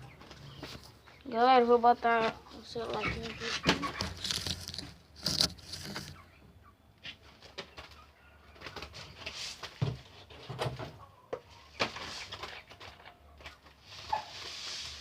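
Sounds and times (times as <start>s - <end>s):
caged birds calling: 0.0s - 15.0s.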